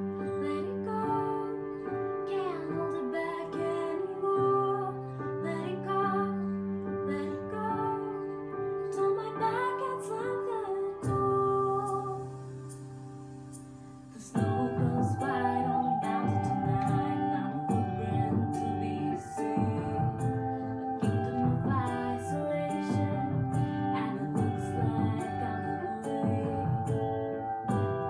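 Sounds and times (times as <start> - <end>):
backing track of sustained chords: 0.0 - 28.0
girl singing: 0.2 - 12.5, 14.2 - 27.2.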